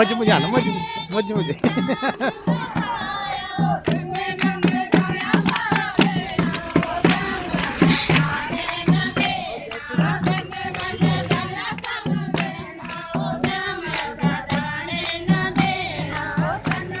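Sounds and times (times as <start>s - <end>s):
group devotional singing: 0.0s - 17.0s
hand clapping: 2.7s - 17.0s.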